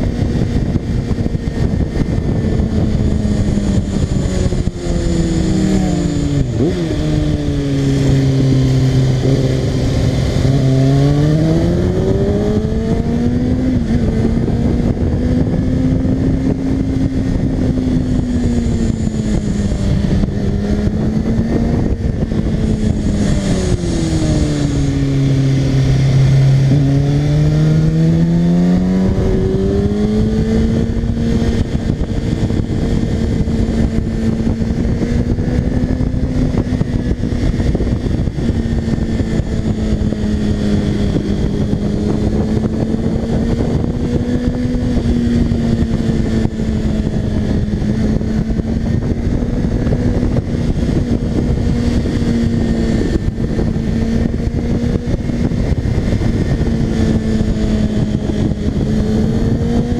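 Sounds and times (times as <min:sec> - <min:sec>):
motorcycle engine running: 0:00.0 - 0:59.9
wind rushing: 0:00.0 - 0:59.9.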